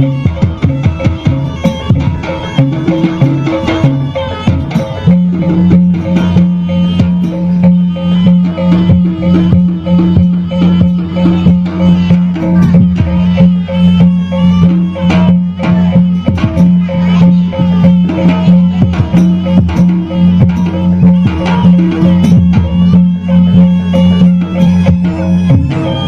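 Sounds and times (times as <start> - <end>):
hand drums and percussion: 0.0 - 26.0
low held tone: 0.0 - 26.0.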